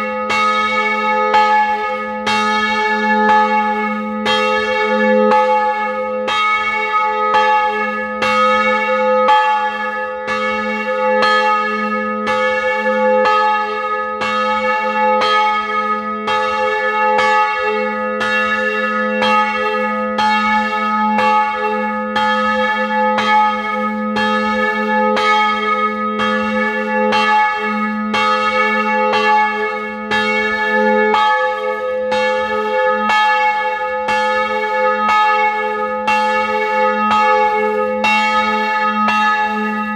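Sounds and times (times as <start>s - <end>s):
church bell striking: 0.0s - 39.9s.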